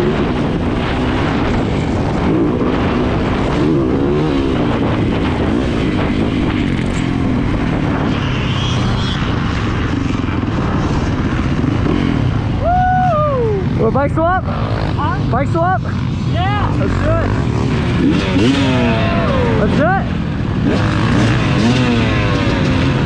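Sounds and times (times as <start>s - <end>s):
motorcycle engine revving: 0.0s - 12.6s, 13.2s - 23.0s
wind noise: 0.0s - 23.0s.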